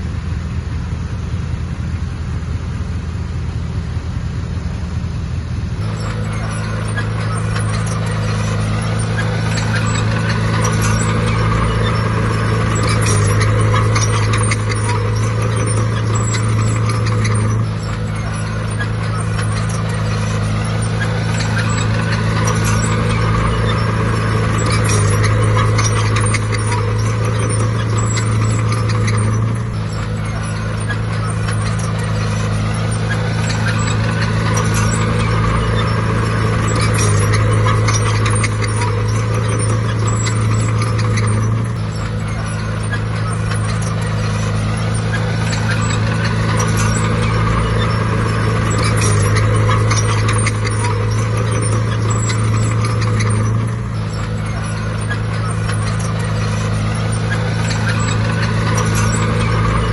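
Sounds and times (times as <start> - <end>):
bulldozer diesel engine under load: 0.0 - 59.9
fine metallic clatter: 5.8 - 59.9.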